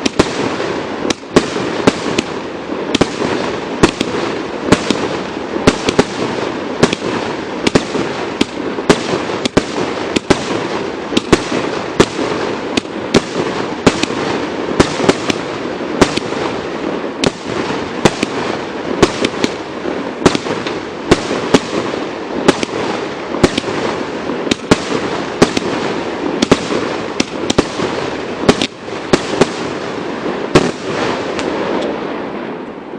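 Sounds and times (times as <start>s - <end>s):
bursting firework effects: 0.0s - 32.9s.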